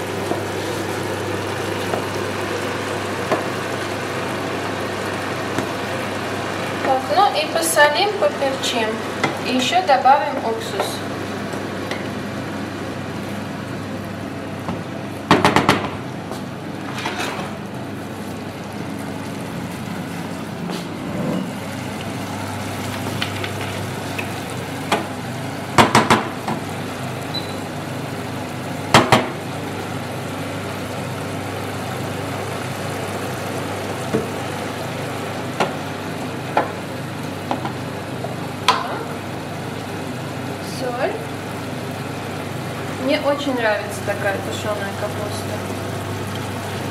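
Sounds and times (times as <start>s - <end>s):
sizzling: 0.0s - 14.1s, 21.5s - 46.9s.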